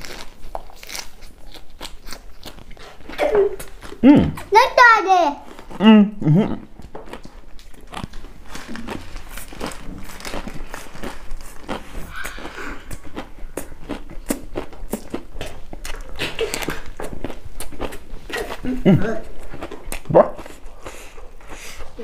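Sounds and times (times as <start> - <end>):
open-mouth chewing crunchy salad: 0.0 - 4.6, 5.4 - 22.0.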